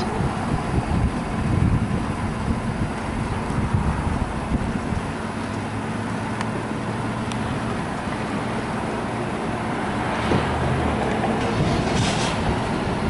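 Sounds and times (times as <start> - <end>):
outdoor traffic noise: 0.0 - 13.0
vehicle engine idling: 0.0 - 13.0.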